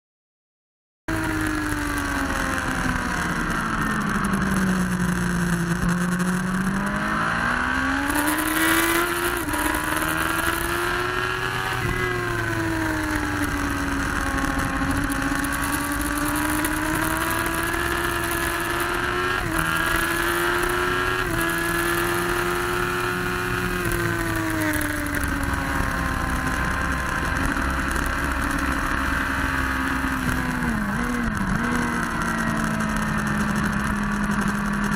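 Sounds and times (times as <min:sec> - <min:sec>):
motorcycle engine at high revs: 0:01.1 - 0:34.9.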